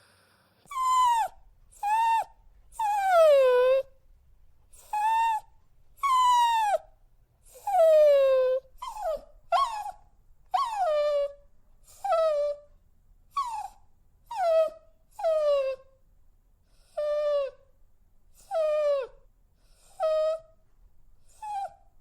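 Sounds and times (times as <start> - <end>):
dog whining: 0.7 - 4.0, 4.7 - 16.0, 16.8 - 17.7, 18.3 - 20.6, 21.2 - 22.0.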